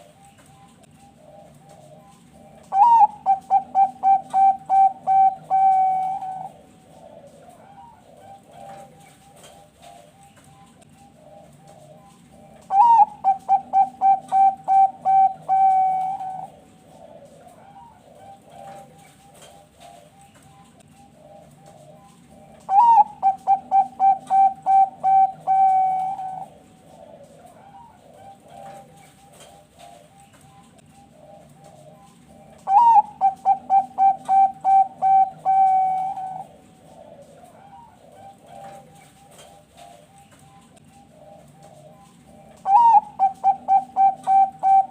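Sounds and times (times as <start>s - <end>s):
dove cooing song: 0.0s - 44.9s
soft cooing of doves: 0.0s - 44.9s.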